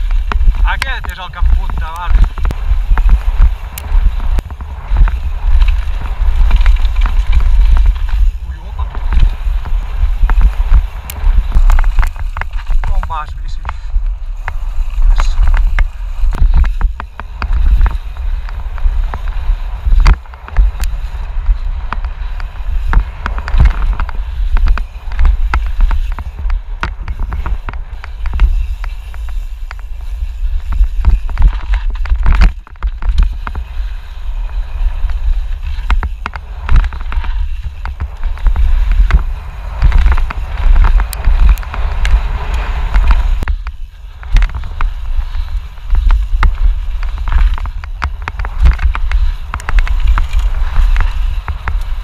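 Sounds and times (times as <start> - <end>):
bike knocks and rattles: 0.0 - 52.0
wind buffeting microphone: 0.0 - 52.0.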